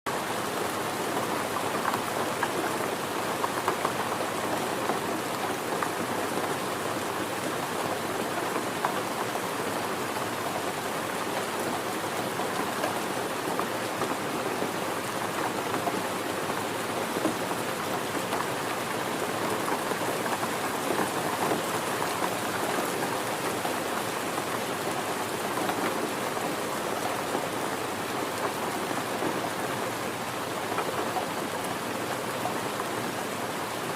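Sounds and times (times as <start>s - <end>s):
rain falling on a surface: 0.1s - 33.9s.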